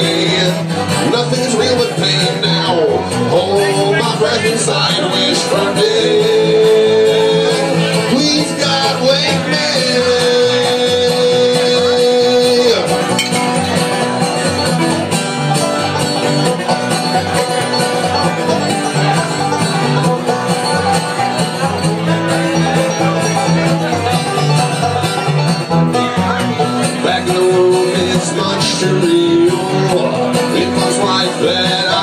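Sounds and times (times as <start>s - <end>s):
acoustic guitar: 0.0s - 32.0s
fast picked banjo: 0.0s - 32.0s.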